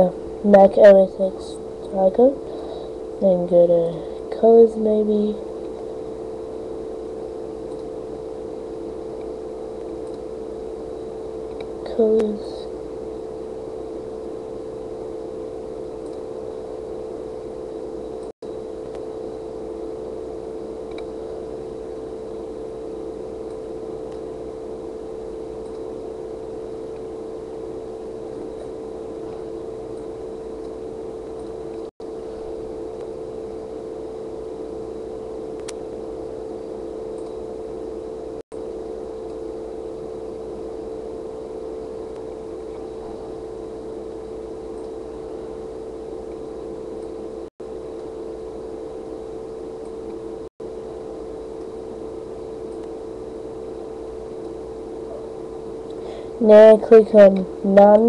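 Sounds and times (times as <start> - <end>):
computer fan whirring: 0.0 - 58.0.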